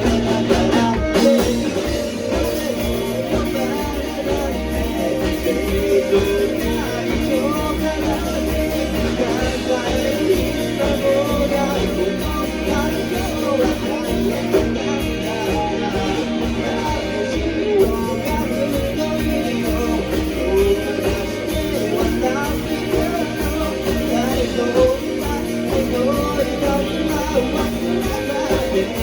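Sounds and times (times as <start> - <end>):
rock song with singing and guitar: 0.0 - 29.0.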